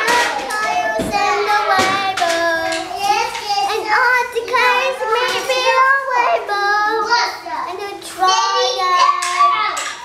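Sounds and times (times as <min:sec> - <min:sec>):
girl singing: 0:00.0 - 0:09.8.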